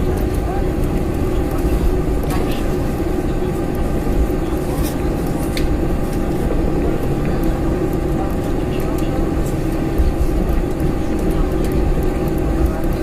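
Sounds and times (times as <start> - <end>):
airliner cabin engine rumble: 0.0 - 13.0
steady hum: 0.0 - 13.0.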